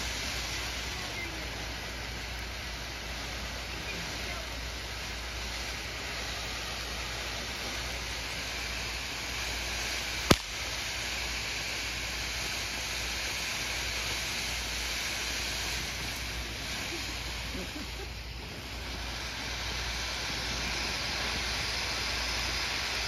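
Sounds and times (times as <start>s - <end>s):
firework crack: 0.0s - 23.0s
firework fountain hissing: 0.0s - 23.0s.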